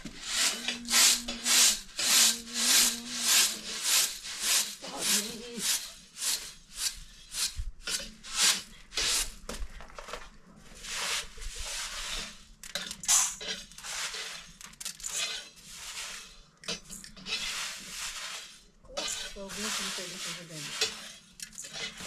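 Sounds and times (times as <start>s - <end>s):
scraping rubbing strokes: 0.0s - 9.4s, 10.8s - 12.5s, 13.1s - 16.5s, 17.2s - 22.0s.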